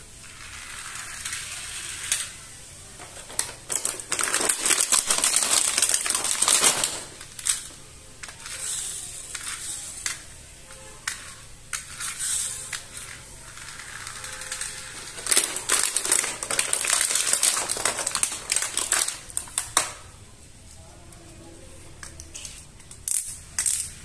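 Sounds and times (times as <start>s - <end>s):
plastic packaging crackling: 0.3s - 20.2s.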